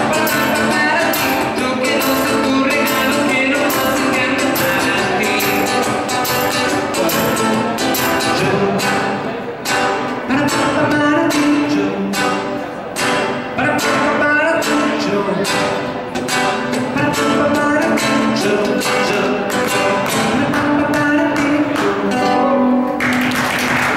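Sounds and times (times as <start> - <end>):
man singing: 0.0 - 23.4
acoustic guitar strumming: 0.0 - 23.9.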